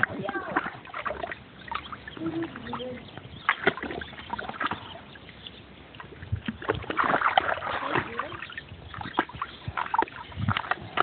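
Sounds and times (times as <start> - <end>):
water splashing in plastic tub: 0.0 - 11.0.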